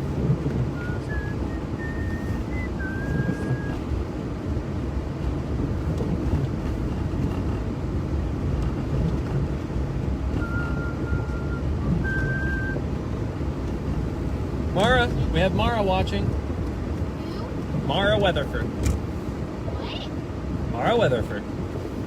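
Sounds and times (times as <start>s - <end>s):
car driving rumble: 0.0s - 22.0s
defroster fan blowing: 0.0s - 22.0s.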